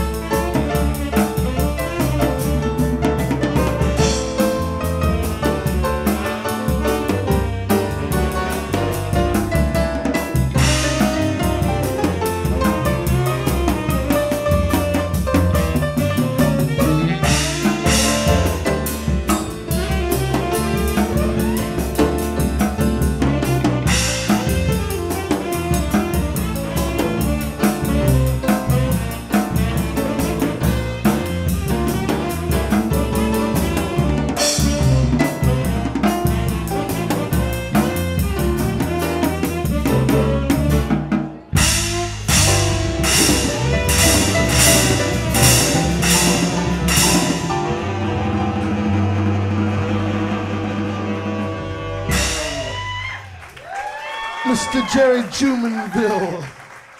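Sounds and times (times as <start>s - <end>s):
saxophone: 0.0s - 53.5s
jazz-funk band playing: 0.0s - 56.7s.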